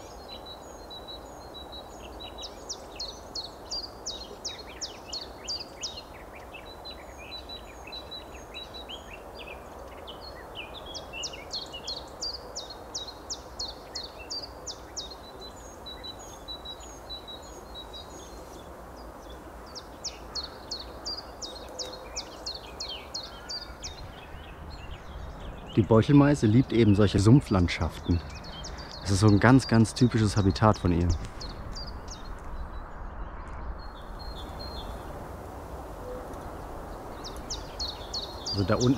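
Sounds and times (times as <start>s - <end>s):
low background noise: 0.0s - 38.9s
small songbirds singing: 0.0s - 38.9s.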